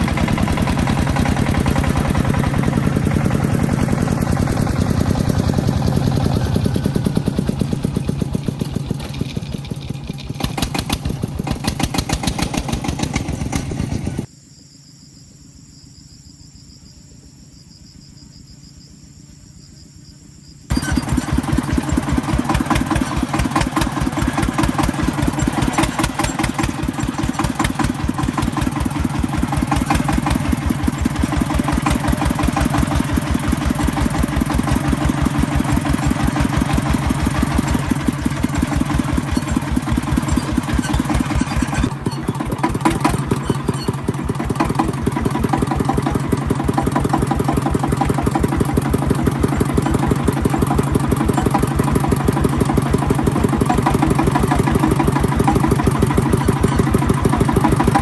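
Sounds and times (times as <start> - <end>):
tractor engine chugging: 0.0 - 14.3, 20.7 - 58.0.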